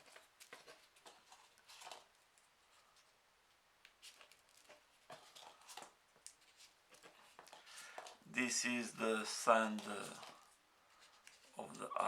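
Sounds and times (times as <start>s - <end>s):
paper rustling and clicking: 0.0s - 3.1s, 3.8s - 8.2s, 9.0s - 11.8s.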